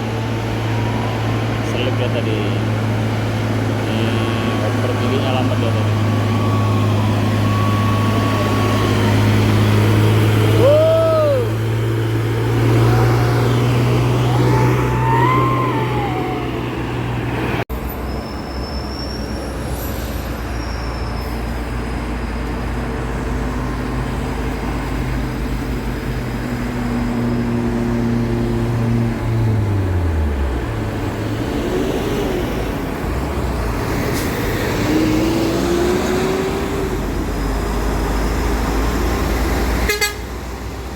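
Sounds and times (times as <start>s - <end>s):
truck diesel engine labouring: 0.0s - 40.9s.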